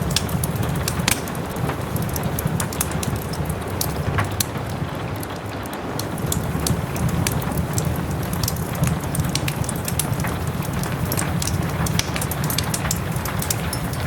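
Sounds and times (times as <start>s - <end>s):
soft rain: 0.0s - 14.0s
wood fire crackling: 0.0s - 14.0s.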